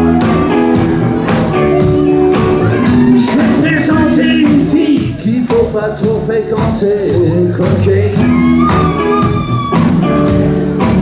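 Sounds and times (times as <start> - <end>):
live band with electric guitar: 0.0 - 11.0.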